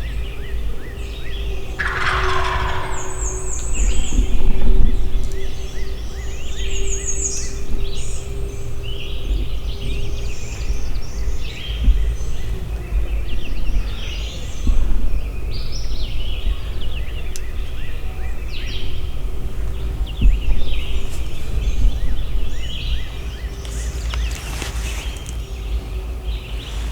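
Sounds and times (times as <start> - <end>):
songbirds singing: 0.0 - 26.9
steady low rumble: 0.0 - 26.9.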